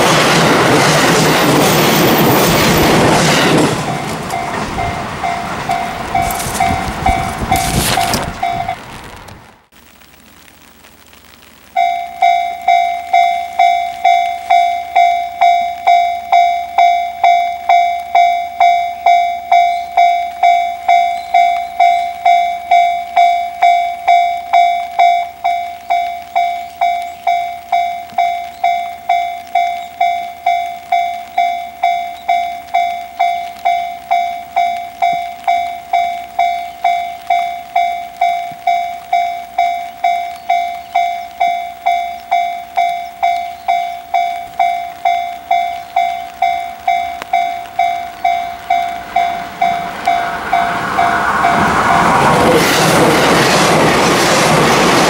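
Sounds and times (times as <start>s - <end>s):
level crossing warning bell: 1.0s - 8.9s, 11.7s - 53.3s.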